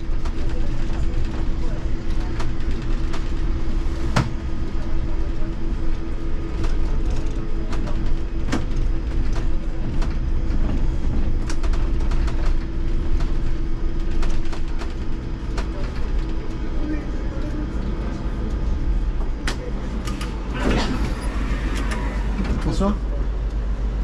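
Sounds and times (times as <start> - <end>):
trolleybus rumble and hum: 0.0 - 24.0.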